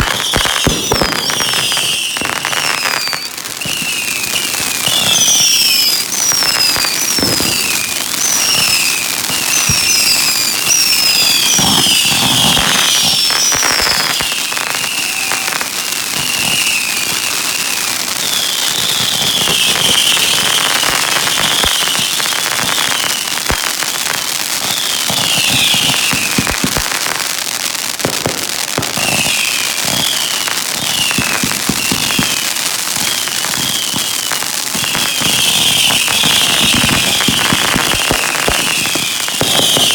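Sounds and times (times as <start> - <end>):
fireworks crackling and banging: 0.0 - 39.9
fireworks whistling: 0.0 - 39.9.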